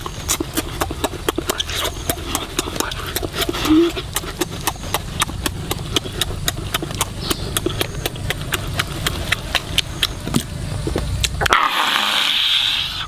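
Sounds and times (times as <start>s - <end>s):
chewing and lip smacking: 0.0s - 11.6s.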